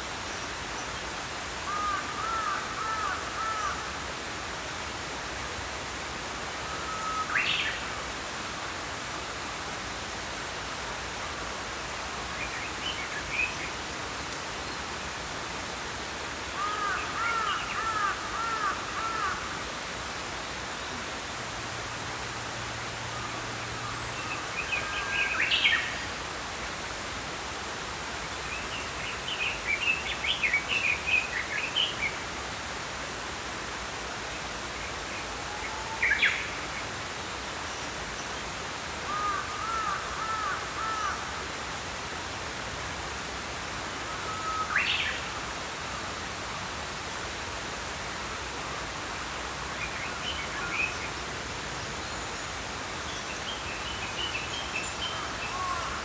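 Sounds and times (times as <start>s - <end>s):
stream flowing: 0.0s - 56.0s.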